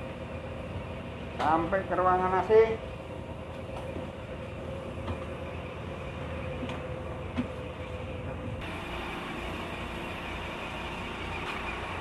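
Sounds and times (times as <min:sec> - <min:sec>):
machinery drone: 0:00.0 - 0:12.0.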